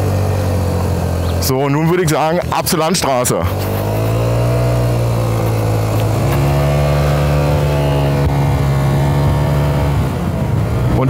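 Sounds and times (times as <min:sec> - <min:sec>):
scooter engine running: 0:00.0 - 0:10.9.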